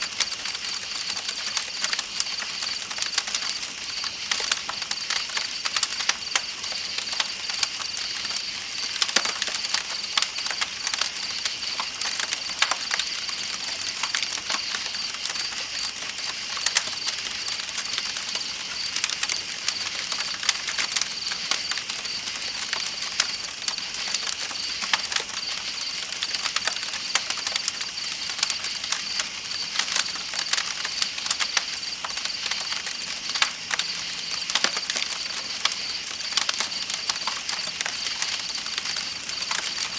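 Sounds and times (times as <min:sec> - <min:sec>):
campfire crackling and popping: 0:00.0 - 0:39.9
night insects chirring: 0:00.1 - 0:39.9.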